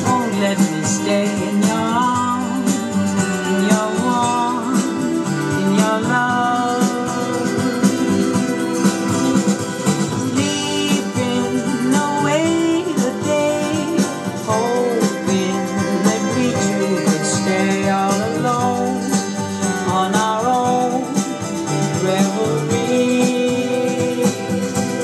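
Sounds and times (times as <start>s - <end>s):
guitar: 0.0s - 25.0s
person singing: 0.0s - 25.0s.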